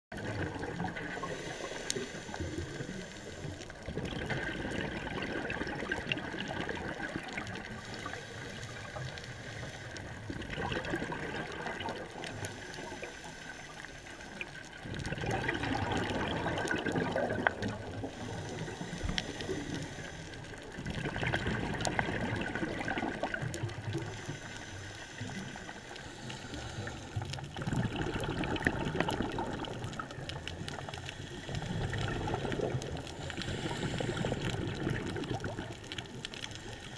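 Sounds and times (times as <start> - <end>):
exhaled bubbles rushing: 0.1 - 9.0, 9.9 - 13.2, 14.3 - 24.3, 26.8 - 36.5.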